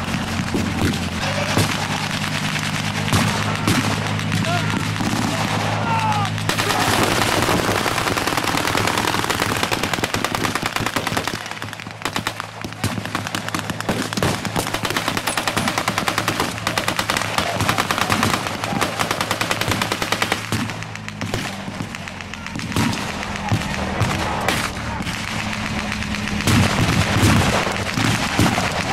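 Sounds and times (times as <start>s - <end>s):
machine-gun fire: 0.0s - 28.9s
vehicle engine humming: 0.0s - 28.9s.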